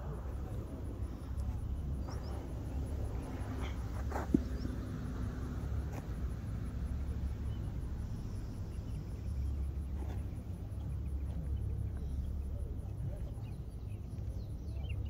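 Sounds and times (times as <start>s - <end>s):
insects chirping: 0.0s - 15.0s
steady low rumble: 0.0s - 15.0s.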